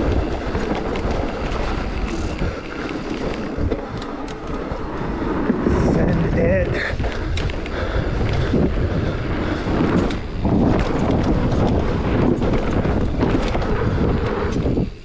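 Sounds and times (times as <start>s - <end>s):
mountain bike rattling: 0.0s - 15.0s
wind on microphone: 0.0s - 15.0s.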